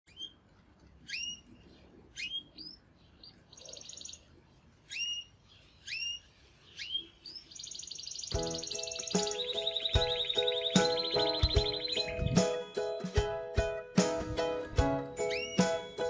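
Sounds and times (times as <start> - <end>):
canary chirping: 0.1 - 0.4, 1.0 - 13.0, 15.2 - 16.0.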